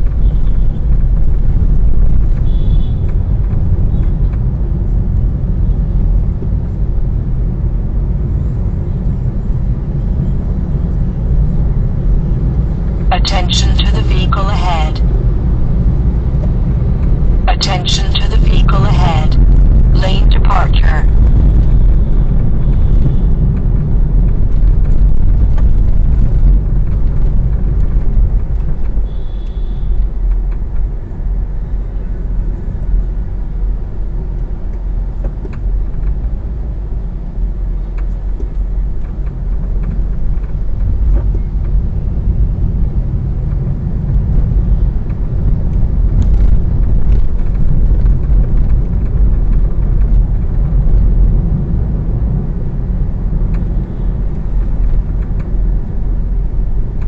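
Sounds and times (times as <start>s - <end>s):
car tyres and engine rumble: 0.0s - 13.1s, 21.1s - 57.0s.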